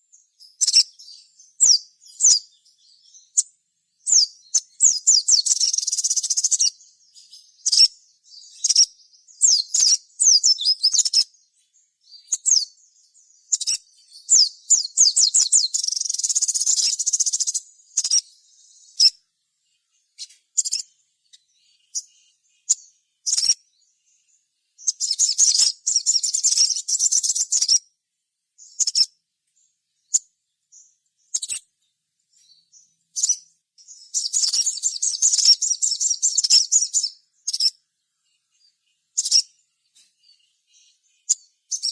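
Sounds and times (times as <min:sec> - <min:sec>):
bird chittering trills: 0:00.0 - 0:27.9, 0:28.6 - 0:41.9
bird sharp chirps: 0:00.0 - 0:27.9, 0:28.6 - 0:41.9.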